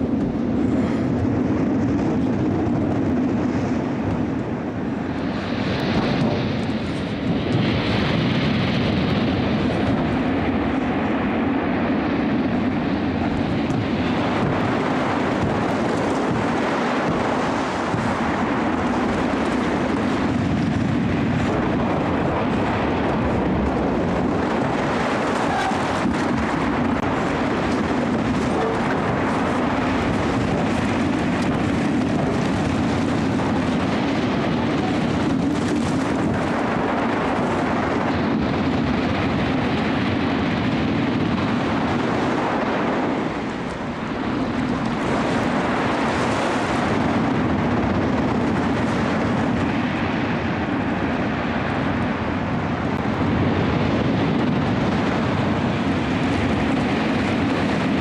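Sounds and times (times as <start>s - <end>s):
stormy sea surf roaring: 0.0s - 58.0s
wind: 0.0s - 58.0s.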